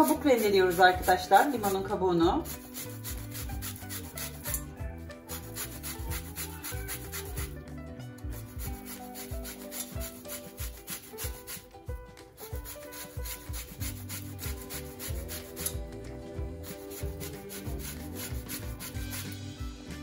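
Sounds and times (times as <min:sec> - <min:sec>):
grater scraping lemon peel: 0:00.0 - 0:04.6, 0:05.3 - 0:07.6, 0:08.2 - 0:15.8, 0:16.6 - 0:19.4.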